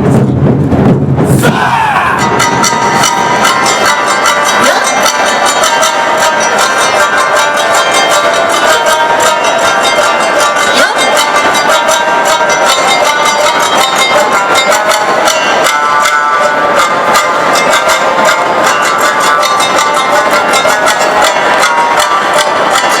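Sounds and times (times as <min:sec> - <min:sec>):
drums beating: 0:00.0 - 0:23.0
clanging gongs: 0:01.4 - 0:23.0
plucked shamisen: 0:01.4 - 0:23.0.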